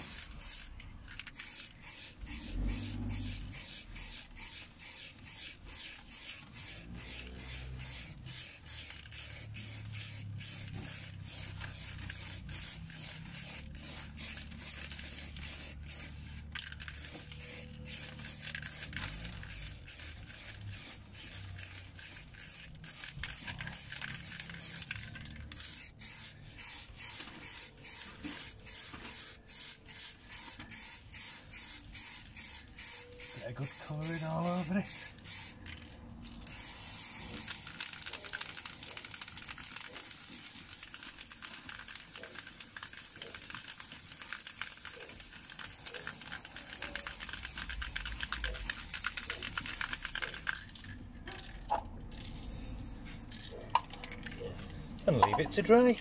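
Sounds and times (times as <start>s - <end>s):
aerosol spray can hissing: 0.0s - 35.6s, 36.4s - 50.6s.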